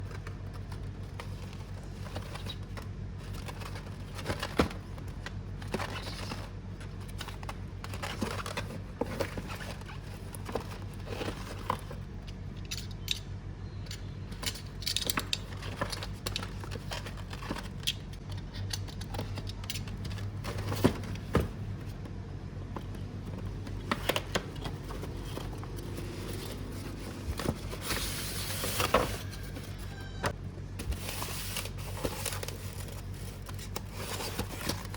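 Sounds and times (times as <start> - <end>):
cardboard and plastic rustling: 0.0 - 12.2, 14.3 - 34.9
steady low hum: 0.0 - 34.9.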